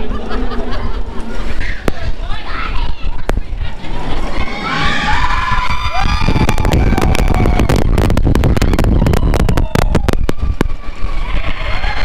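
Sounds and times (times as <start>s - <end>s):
roller coaster rumbling and rattling: 0.0s - 12.0s.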